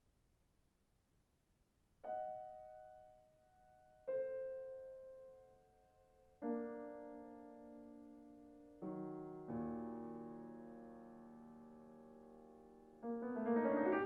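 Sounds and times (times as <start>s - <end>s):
piano chords: 2.1s - 14.0s.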